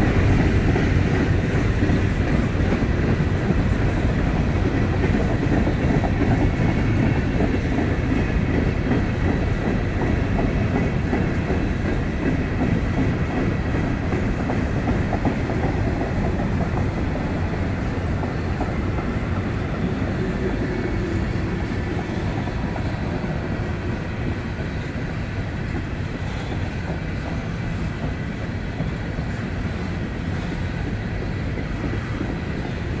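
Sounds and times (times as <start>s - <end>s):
freight train wheels clattering: 0.0s - 33.0s.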